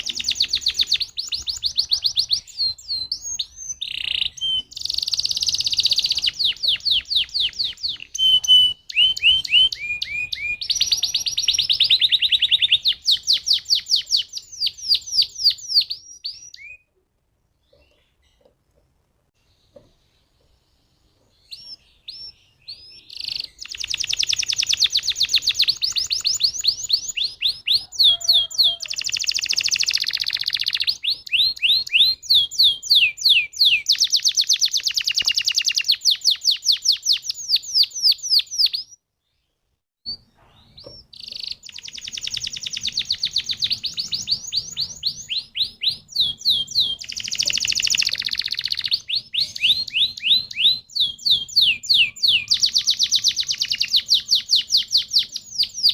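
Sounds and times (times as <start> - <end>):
canary singing trills: 0.0 - 16.9, 19.5 - 39.0, 40.1 - 55.9.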